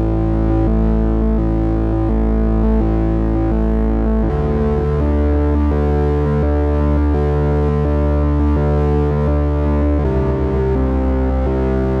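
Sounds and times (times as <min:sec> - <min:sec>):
synthesizer playing low notes with delay: 0:00.0 - 0:12.0.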